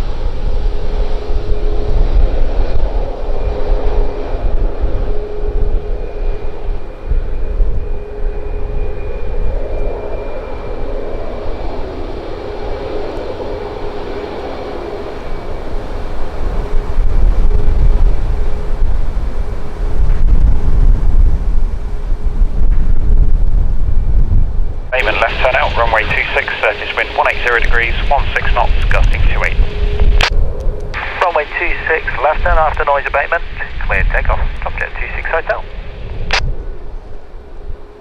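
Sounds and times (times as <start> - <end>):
jet engines whining: 0.0 - 20.4, 25.0 - 38.0
wind buffeting microphone: 0.0 - 38.0.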